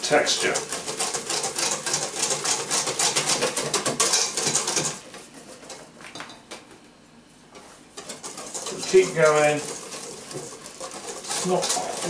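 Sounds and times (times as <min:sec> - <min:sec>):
whisk beating in metal bowl: 0:00.0 - 0:06.0, 0:07.5 - 0:12.0.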